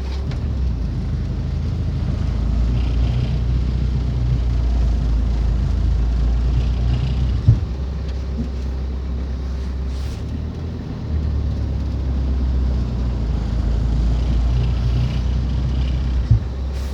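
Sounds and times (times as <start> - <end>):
van engine droning: 0.0 - 16.9.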